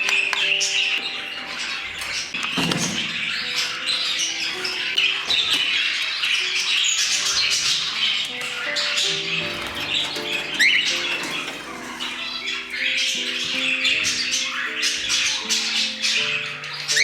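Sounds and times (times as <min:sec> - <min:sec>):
background music with held notes: 0:00.0 - 0:17.0
budgerigars chattering: 0:00.0 - 0:17.0.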